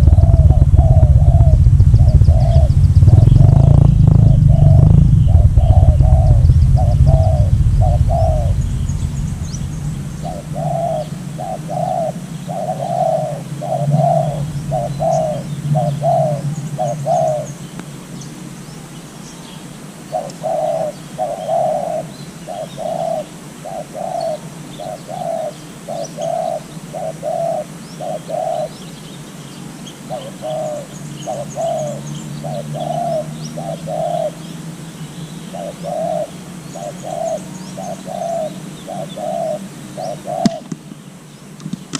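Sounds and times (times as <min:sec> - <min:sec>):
dove cooing: 0:00.0 - 0:18.1, 0:20.1 - 0:28.8, 0:30.0 - 0:34.4, 0:35.5 - 0:40.8
small birds chirping faintly: 0:00.0 - 0:41.9.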